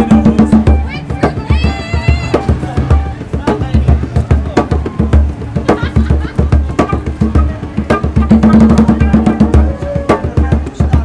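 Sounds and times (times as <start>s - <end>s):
drum beats: 0.0s - 11.0s.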